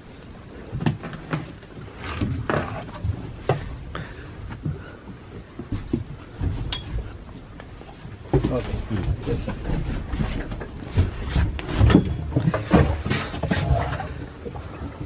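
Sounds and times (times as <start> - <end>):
footsteps on boat: 0.6 - 15.0.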